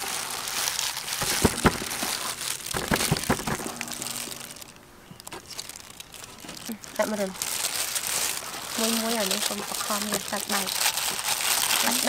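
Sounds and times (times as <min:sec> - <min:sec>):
breadcrumbs rustling and crunching: 0:00.0 - 0:12.0.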